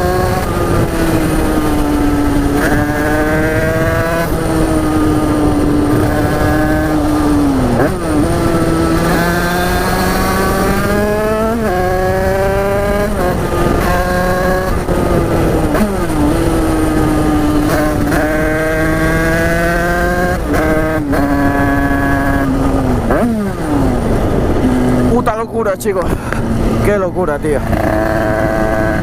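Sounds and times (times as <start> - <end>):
dirt bike accelerating through gears: 0.0 - 29.0.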